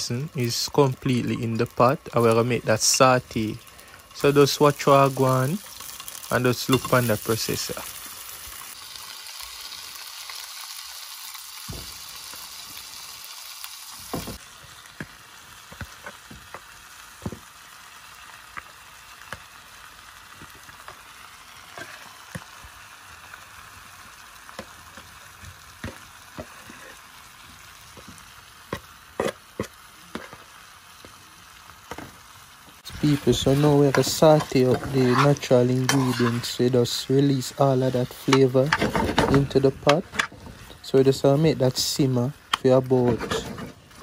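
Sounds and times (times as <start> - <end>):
vegetables sizzling in oil: 0.0 - 44.0.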